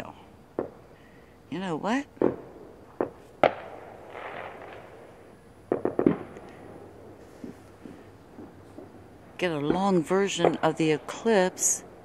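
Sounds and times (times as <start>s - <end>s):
fireworks bangs: 2.2s - 12.0s.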